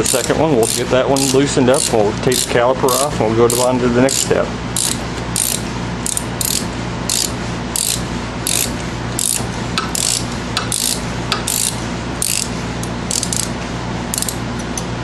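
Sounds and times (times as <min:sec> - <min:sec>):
ratchet clicking: 0:00.0 - 0:13.5, 0:14.1 - 0:14.9.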